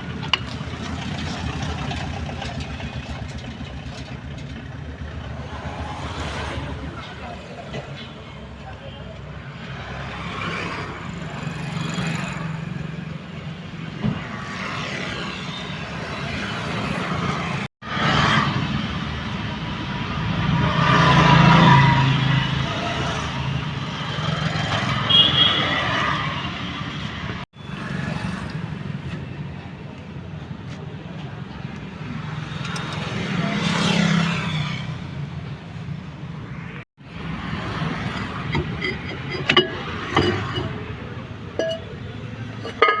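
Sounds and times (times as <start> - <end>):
motor vehicle noise: 0.0 - 43.0.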